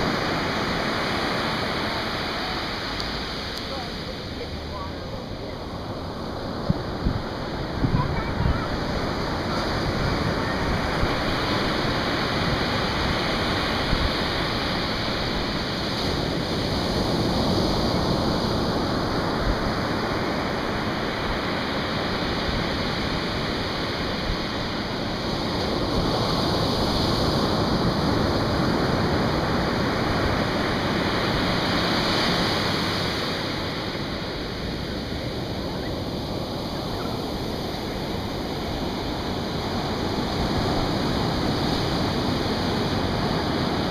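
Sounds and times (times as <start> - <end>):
surf washing up a beach: 0.0 - 43.9.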